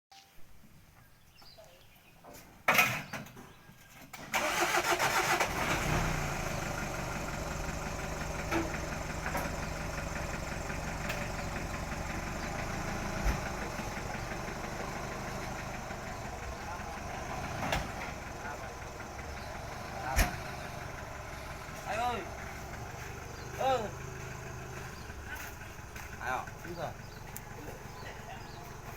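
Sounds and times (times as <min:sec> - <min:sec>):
vehicle engine starting and idling: 0:04.1 - 0:28.9.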